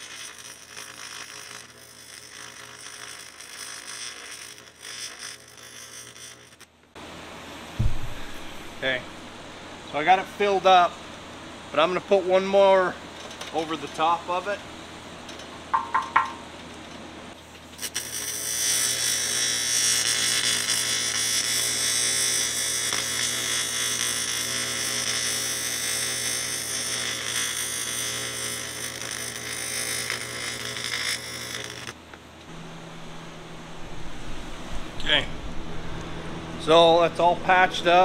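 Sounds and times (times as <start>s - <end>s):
welding arc buzzing hiss: 0.0s - 6.8s, 7.7s - 12.9s, 17.3s - 38.0s.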